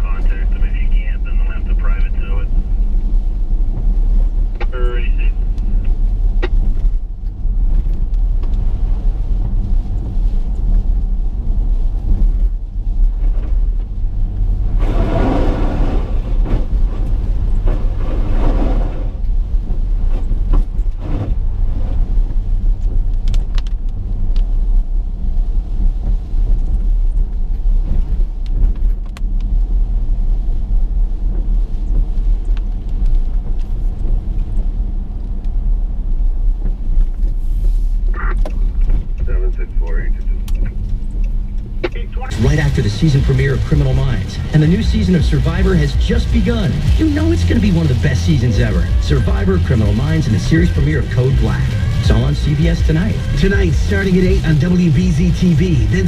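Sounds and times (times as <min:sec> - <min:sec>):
car interior rumble: 0:00.0 - 0:56.0.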